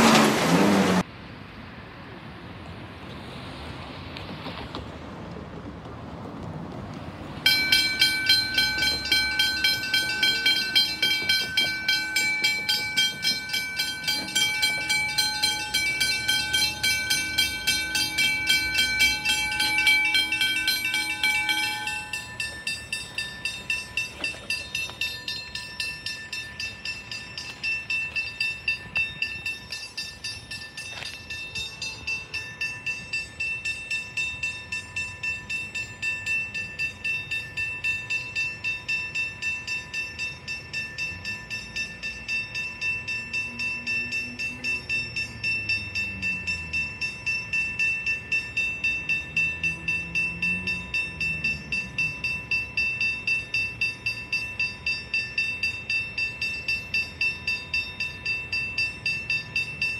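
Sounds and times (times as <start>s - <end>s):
high-pitched level-crossing bell: 7.4s - 59.9s
quieter lower level-crossing bell: 7.4s - 59.9s.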